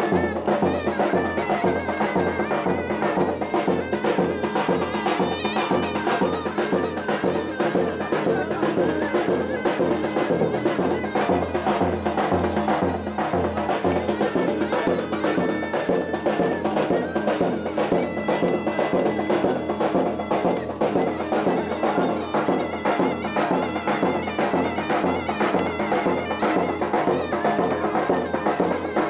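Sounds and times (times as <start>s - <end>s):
reedy shawm melody: 0.0s - 29.0s.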